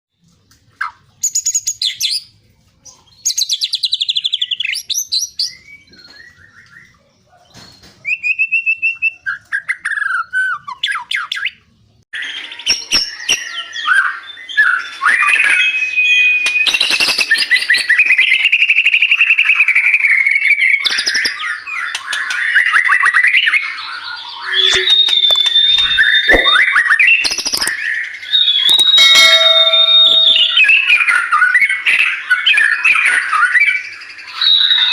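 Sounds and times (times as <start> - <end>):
songbird whistles and trills: 3.0 - 11.6, 12.2 - 34.9.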